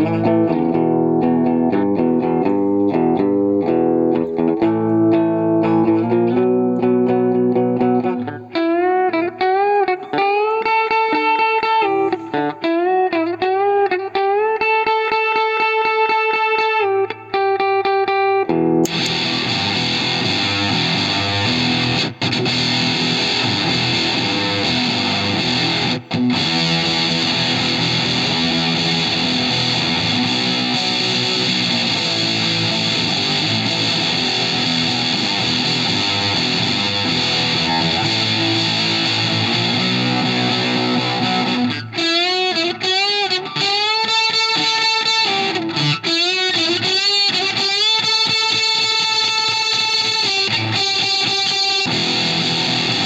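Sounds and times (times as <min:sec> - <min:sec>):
fuzzy electric guitar: 0:00.0 - 0:53.0.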